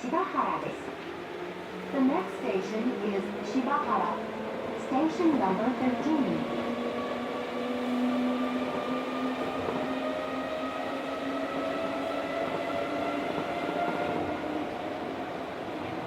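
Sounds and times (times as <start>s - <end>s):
train tyres rumbling: 0.3s - 16.0s.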